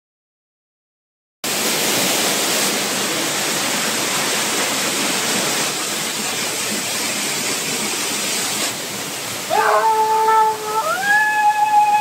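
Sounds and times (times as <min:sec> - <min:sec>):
waterfall rushing: 0:01.5 - 0:12.0.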